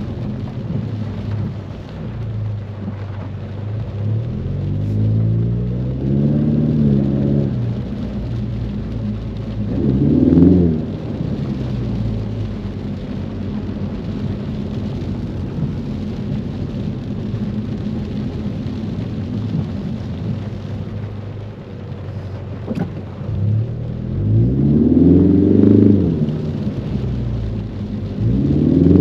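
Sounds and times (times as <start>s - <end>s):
car engine revving: 0.0s - 16.5s, 19.0s - 29.0s
rain and wet-road noise: 0.0s - 29.0s.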